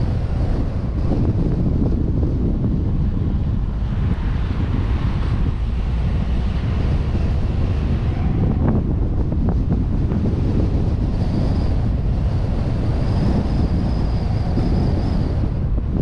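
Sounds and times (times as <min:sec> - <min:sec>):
road and engine rumble: 0:00.0 - 0:16.0
wind buffeting microphone: 0:00.0 - 0:16.0.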